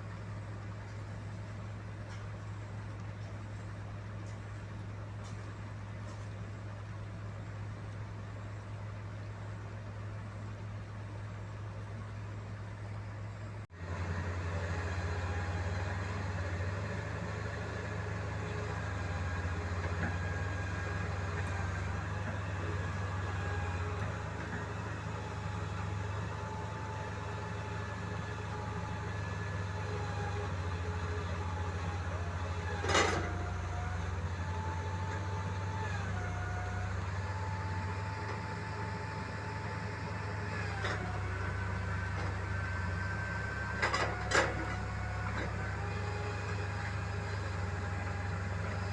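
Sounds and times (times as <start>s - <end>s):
heavy machine engine humming: 0.0s - 48.9s.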